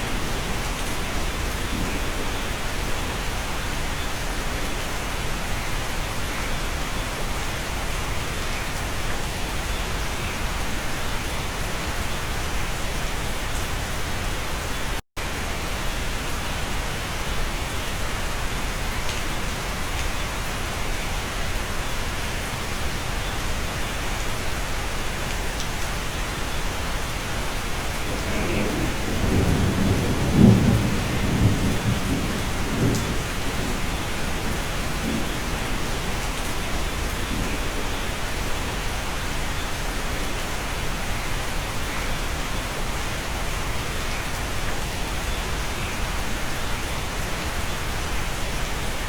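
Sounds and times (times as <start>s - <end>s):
steady rain hiss: 0.0s - 49.0s.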